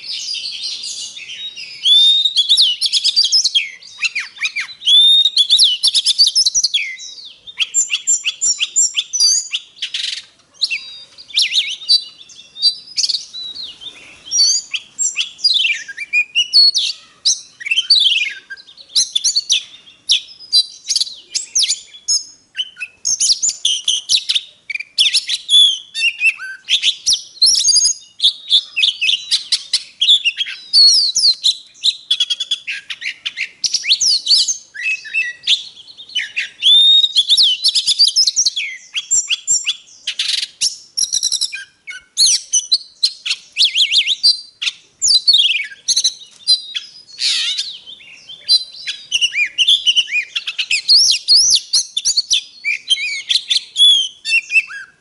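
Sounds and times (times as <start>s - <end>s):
bird singing whistled song: 0.0s - 55.0s.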